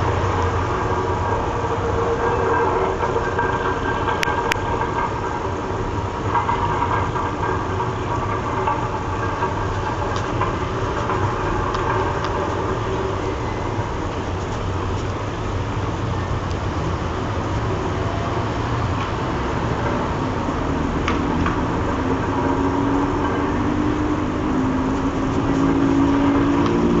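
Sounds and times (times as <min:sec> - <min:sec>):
droning tone: 0:00.0 - 0:27.0.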